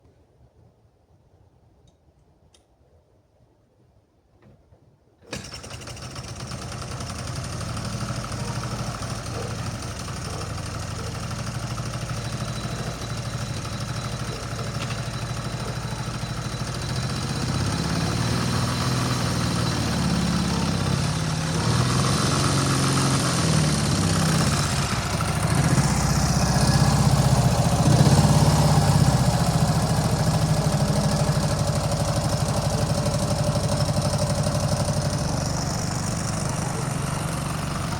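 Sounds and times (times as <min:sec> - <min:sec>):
motorcycle engine starting and running: 0:05.2 - 0:37.9.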